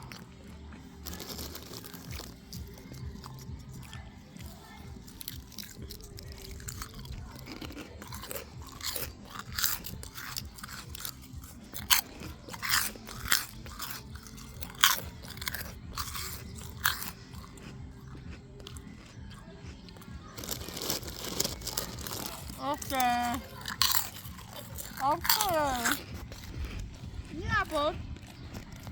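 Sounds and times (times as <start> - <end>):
crisps being chewed: 0.0 - 28.9.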